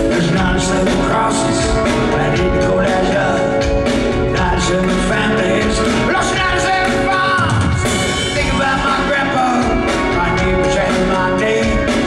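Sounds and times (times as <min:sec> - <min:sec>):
drum beat: 0:00.0 - 0:12.0
electric guitar: 0:00.0 - 0:12.0
male lead vocal: 0:00.0 - 0:12.0.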